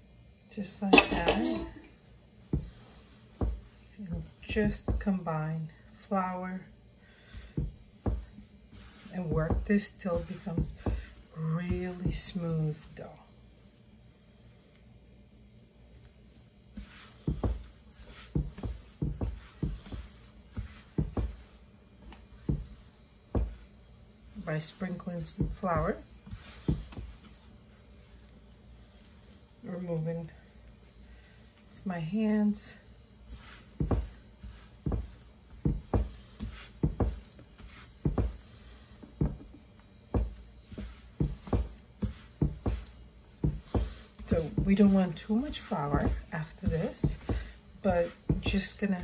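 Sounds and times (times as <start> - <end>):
dough kneaded with dull thumps: 0.3 - 49.0.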